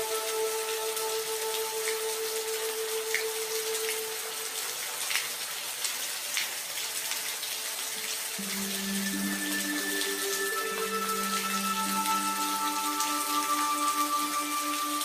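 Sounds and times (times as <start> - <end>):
rain hiss: 0.0 - 15.0
raindrops falling close by: 0.0 - 15.0.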